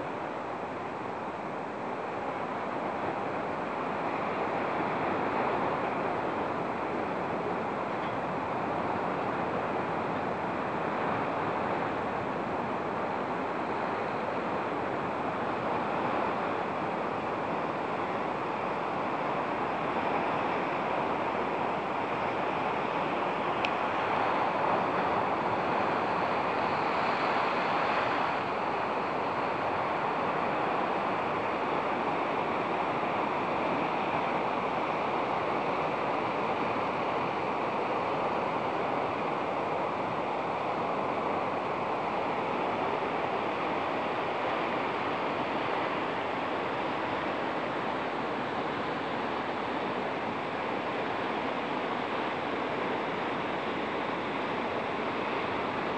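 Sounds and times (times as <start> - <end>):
sea rushing at shore: 0.0 - 55.9
wind: 0.0 - 55.9.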